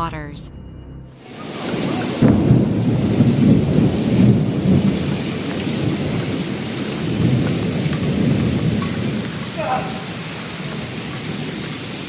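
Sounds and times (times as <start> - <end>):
heavy rain hissing: 1.2 - 12.0.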